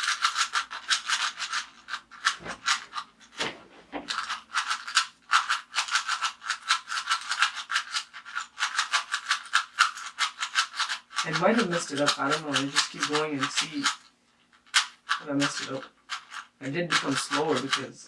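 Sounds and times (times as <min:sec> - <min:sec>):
puzzle cube plastic clicks: 0:00.0 - 0:03.4, 0:04.0 - 0:17.9.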